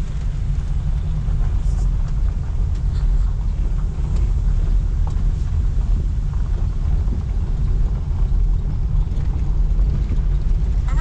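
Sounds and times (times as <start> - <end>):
car tyres and engine rumble: 0.0 - 11.0.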